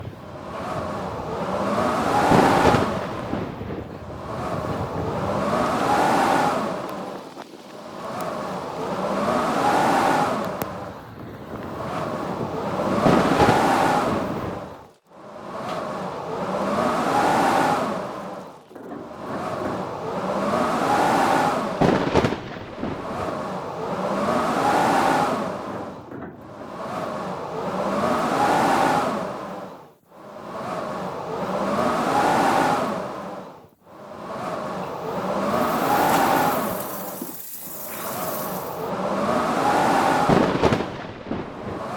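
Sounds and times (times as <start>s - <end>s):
blizzard wind whistling: 0.0s - 41.9s.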